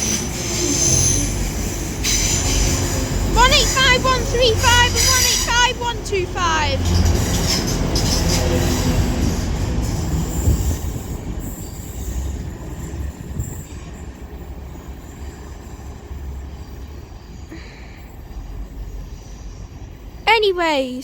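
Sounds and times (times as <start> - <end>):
diesel trains passing: 0.0 - 21.0.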